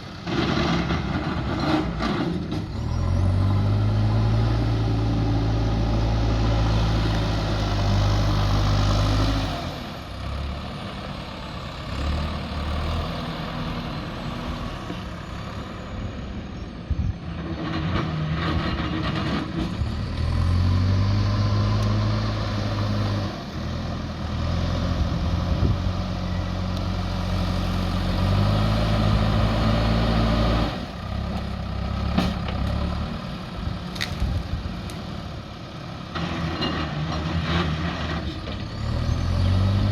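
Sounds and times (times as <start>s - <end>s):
diesel engine revving: 0.0s - 16.3s, 17.3s - 39.9s.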